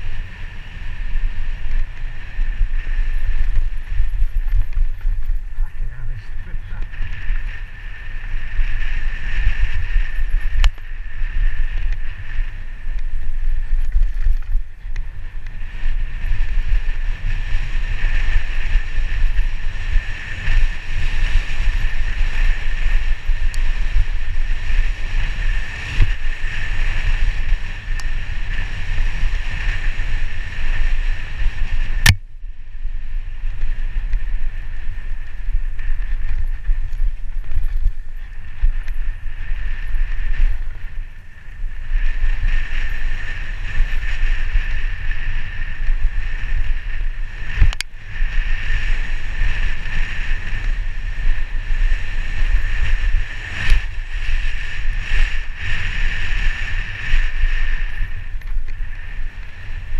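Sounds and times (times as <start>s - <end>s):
bike tyre and chassis rattle: 0.0s - 59.9s
wind rush on microphone: 0.0s - 59.9s.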